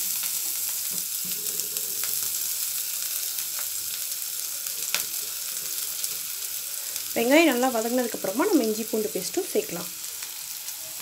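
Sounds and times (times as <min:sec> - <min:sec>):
oil sizzling in a frying pan: 0:00.0 - 0:11.0.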